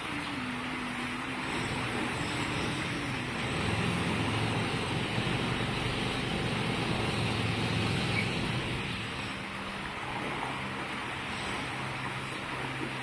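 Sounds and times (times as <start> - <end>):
fish splashing in water: 0.0 - 13.0.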